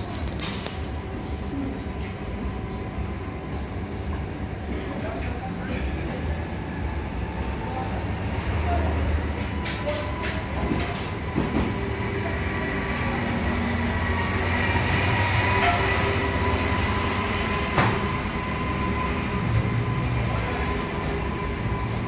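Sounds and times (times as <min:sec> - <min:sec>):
low mechanical hum and rumble: 0:00.0 - 0:22.0.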